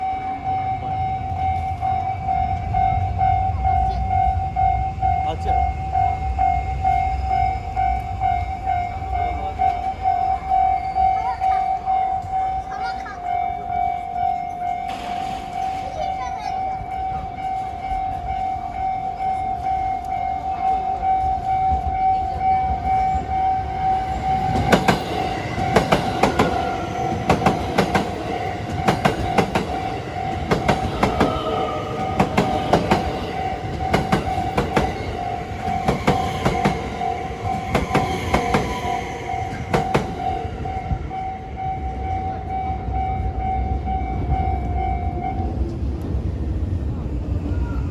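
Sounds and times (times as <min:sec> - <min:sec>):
level crossing bell ringing: 0:00.0 - 0:45.4
train wheels clickety-clack: 0:00.9 - 0:47.7.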